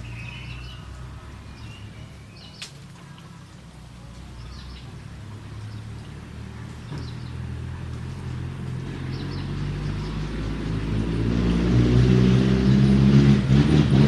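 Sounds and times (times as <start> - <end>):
vehicle engine hum approaching: 0.0 - 14.0.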